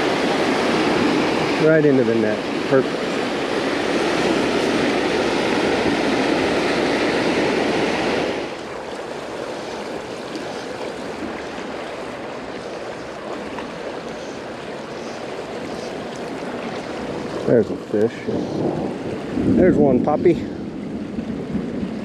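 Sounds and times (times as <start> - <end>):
river rapids rushing: 0.0 - 19.2
creek water flowing: 0.0 - 22.0.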